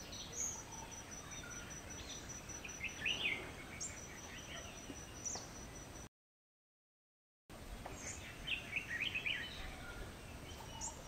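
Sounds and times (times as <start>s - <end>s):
birds chirping and whistling: 0.0s - 6.1s, 7.8s - 11.0s.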